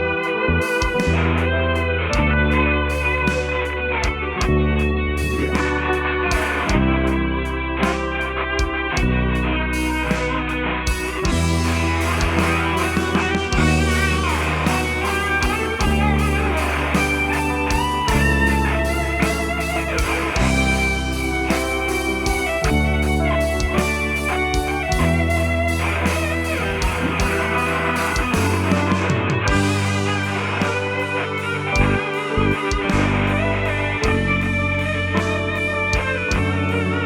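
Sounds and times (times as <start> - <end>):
bass guitar: 0.0 - 37.0
drums: 0.0 - 37.0
electric guitar lead: 0.0 - 37.0
keyboards: 0.0 - 37.0.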